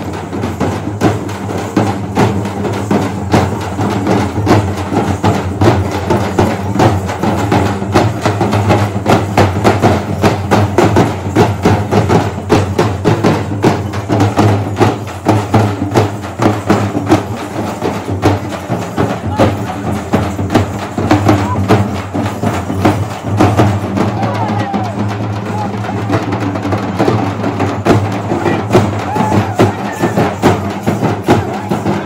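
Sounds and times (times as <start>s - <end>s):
fast stick-beaten drumming: 0.0s - 32.0s.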